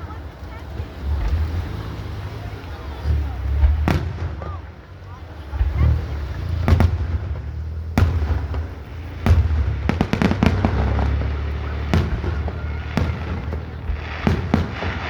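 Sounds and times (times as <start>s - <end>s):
fireworks exploding: 0.1s - 15.0s.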